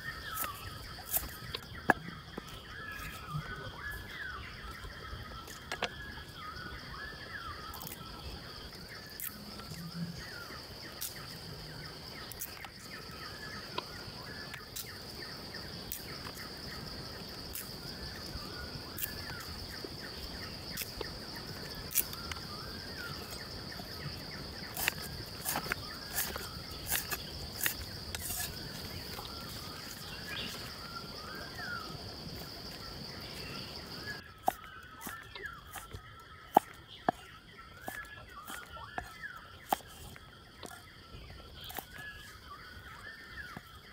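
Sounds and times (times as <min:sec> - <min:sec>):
birds chirping: 0:00.0 - 0:43.9
insects droning: 0:00.0 - 0:43.9.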